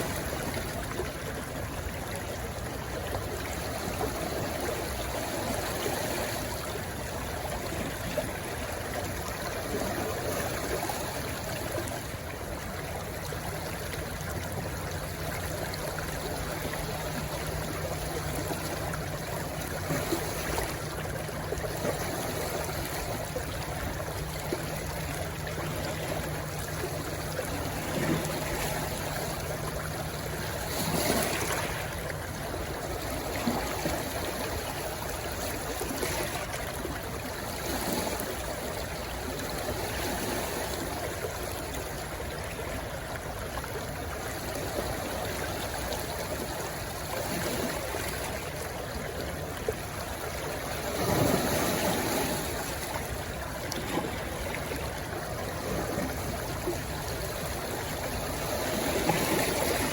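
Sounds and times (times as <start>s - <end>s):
stream water rushing and gurgling: 0.0s - 59.9s.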